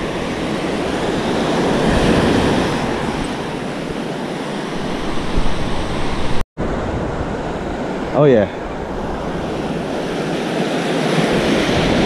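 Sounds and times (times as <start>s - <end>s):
surf waves washing onto sand: 0.0s - 12.0s
wind buffeting microphone: 0.0s - 12.0s.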